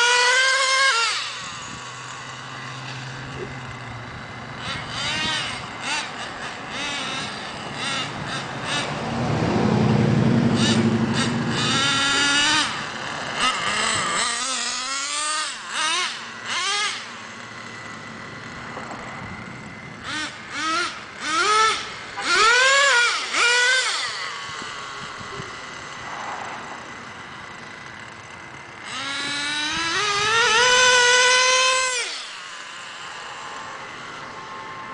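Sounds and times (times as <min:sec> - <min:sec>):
small nitro engine revving: 0:00.0 - 0:34.9.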